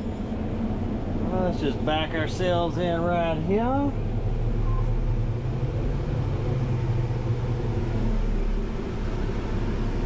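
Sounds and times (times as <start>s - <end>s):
diesel engine running at low revs: 0.0s - 10.0s.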